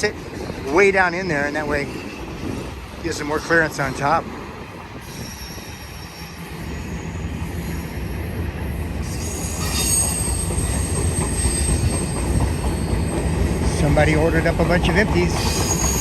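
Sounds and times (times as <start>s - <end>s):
steel wheels squealing on rail: 0.0s - 16.0s
train wheels rumbling on rails: 0.0s - 16.0s.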